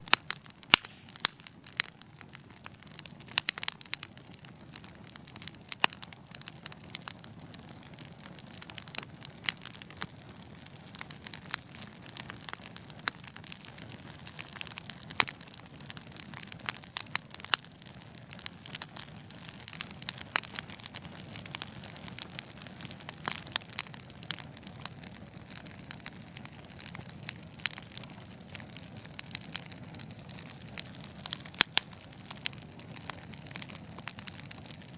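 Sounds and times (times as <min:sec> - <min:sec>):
hiss and rumble of flames: 0:00.0 - 0:34.9
wood fire crackling and popping: 0:00.0 - 0:34.9.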